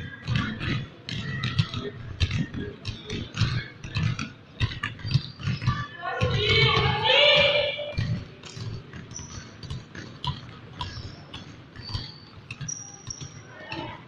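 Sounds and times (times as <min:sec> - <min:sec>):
basketball bouncing on floor: 0:00.0 - 0:14.0
sneakers squeaking on court: 0:00.0 - 0:14.0.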